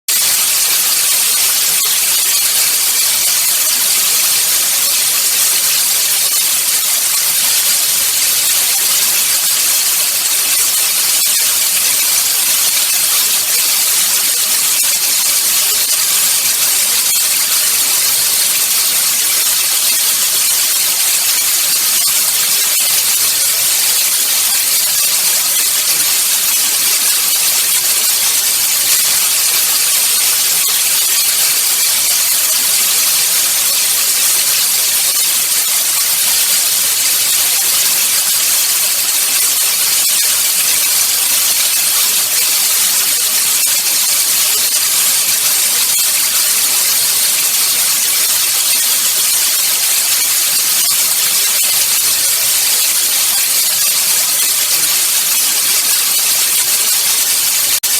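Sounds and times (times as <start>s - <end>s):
loud static hiss: 0.1s - 57.9s.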